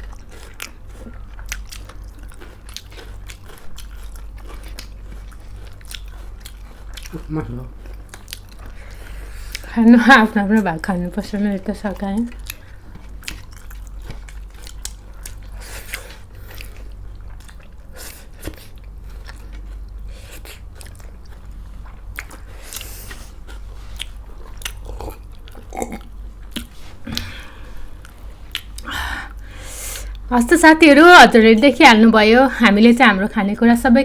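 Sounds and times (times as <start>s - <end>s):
person chewing food: 0.0s - 9.7s, 11.9s - 30.3s.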